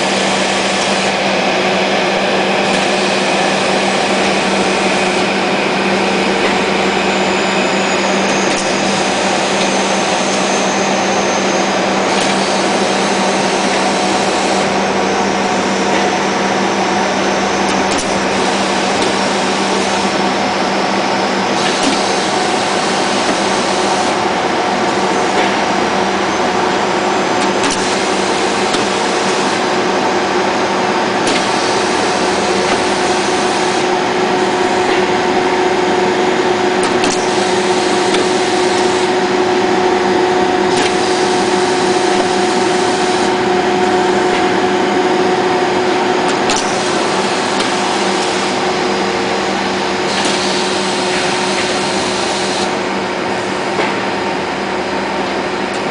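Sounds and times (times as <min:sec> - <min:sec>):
machine whirring with hum: 0:00.0 - 0:55.9.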